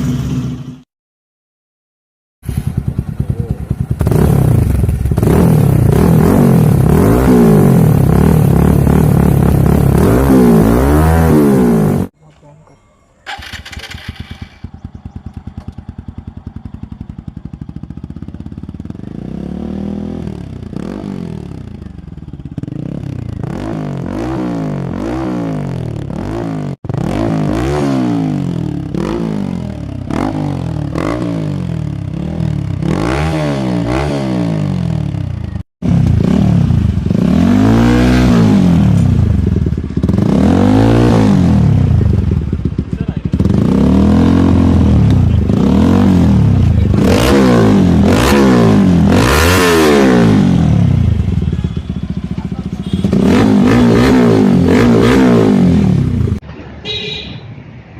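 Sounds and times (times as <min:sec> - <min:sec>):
motorcycle engine revving: 0:00.0 - 0:00.9, 0:02.4 - 0:12.2, 0:13.2 - 0:57.5.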